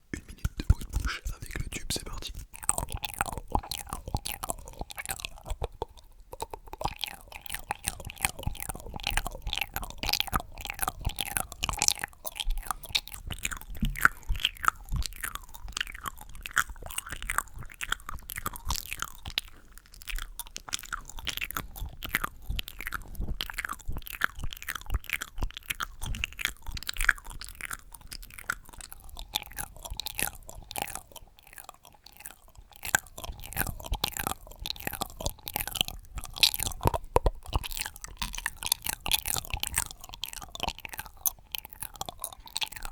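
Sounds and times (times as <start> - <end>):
wet mouth clicks and smacks: 0.0 - 42.9.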